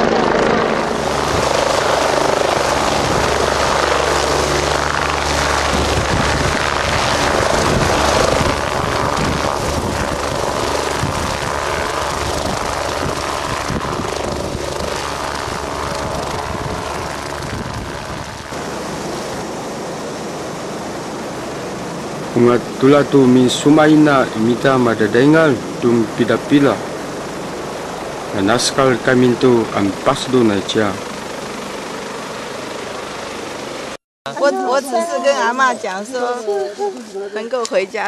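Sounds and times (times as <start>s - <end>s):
helicopter rotor and engine drone: 0.0s - 38.0s.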